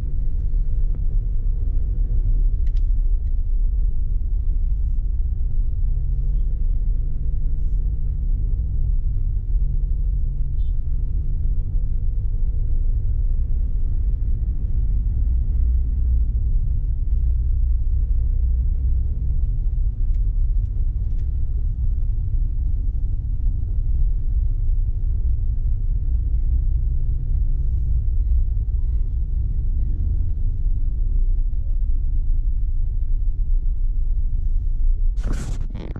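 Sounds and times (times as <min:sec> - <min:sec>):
car driving rumble: 0:00.0 - 0:35.9.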